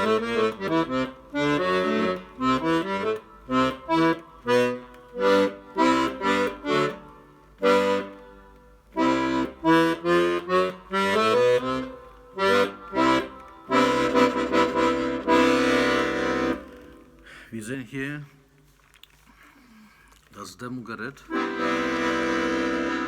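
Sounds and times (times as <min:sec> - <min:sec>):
accordion notes and chords: 0:00.0 - 0:17.6, 0:21.2 - 0:23.0.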